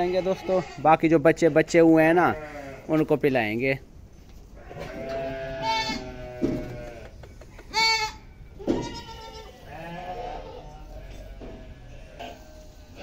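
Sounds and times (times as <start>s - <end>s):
goats bleating: 0.0s - 3.0s, 4.6s - 13.0s.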